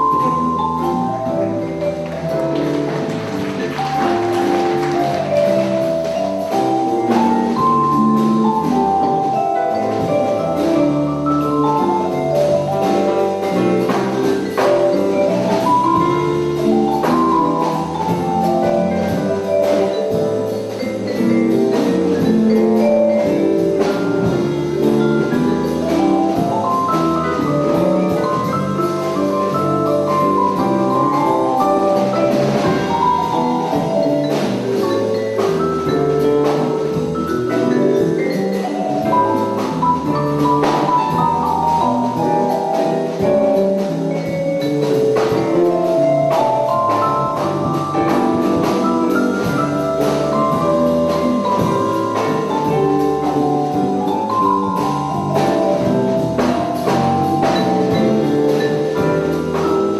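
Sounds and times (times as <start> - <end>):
jazz band playing: 0.0 - 59.9
vibraphone ringing notes: 0.0 - 59.9.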